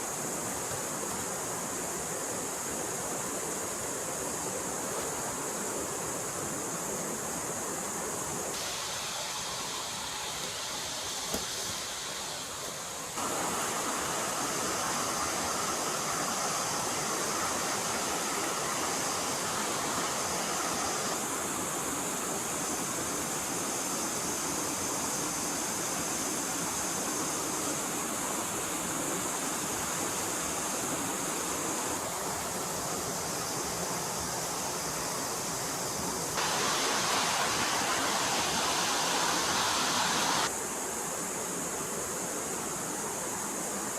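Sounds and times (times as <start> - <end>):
forest stream water flowing: 0.0 - 43.9.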